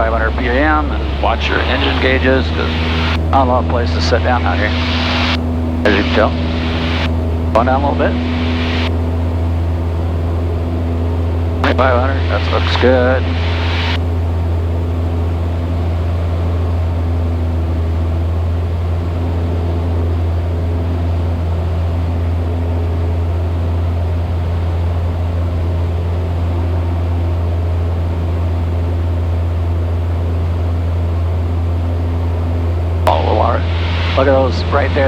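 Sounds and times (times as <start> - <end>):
airplane engine and propeller droning: 0.0 - 35.0.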